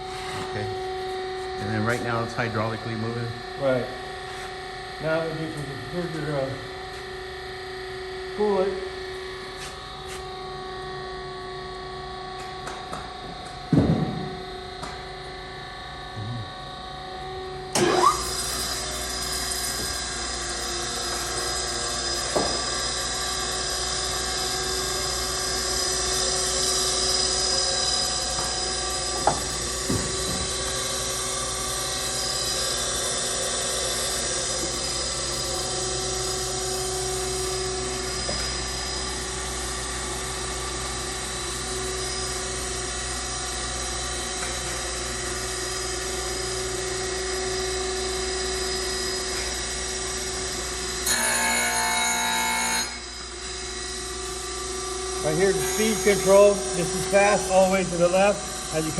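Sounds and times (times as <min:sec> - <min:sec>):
surface grinder whine and hiss: 0:00.0 - 0:16.1, 0:17.4 - 0:58.9.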